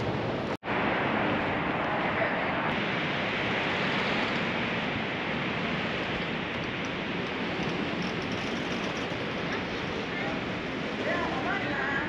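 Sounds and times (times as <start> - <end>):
sea rushing: 0.0 - 12.0
wind: 0.0 - 12.0.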